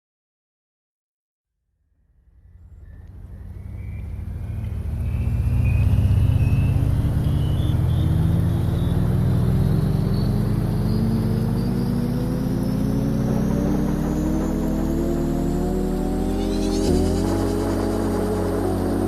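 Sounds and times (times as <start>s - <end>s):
vehicle motor accelerating: 2.4s - 19.0s.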